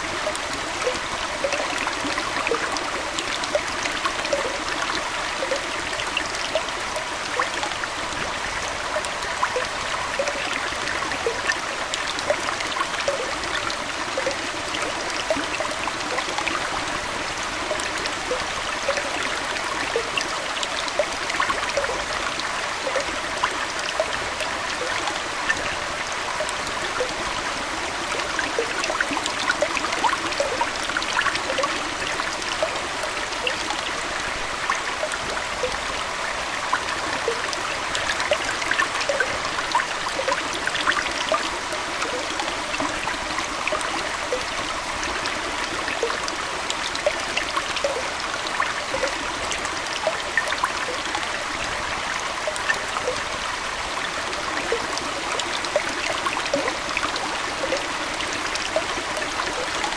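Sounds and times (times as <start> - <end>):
small plops and bubbling: 0.0 - 8.3, 9.0 - 17.0, 17.6 - 33.9, 34.8 - 36.0, 36.7 - 51.8, 54.0 - 59.9
aquarium water trickling: 0.0 - 59.9.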